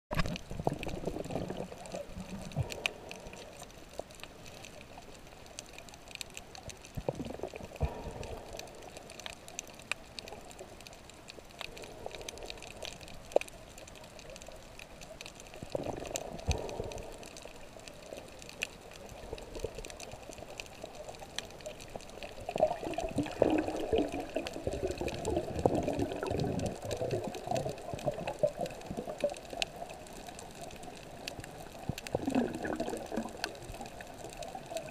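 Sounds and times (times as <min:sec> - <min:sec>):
underwater water washing and gurgling: 0:00.1 - 0:34.9.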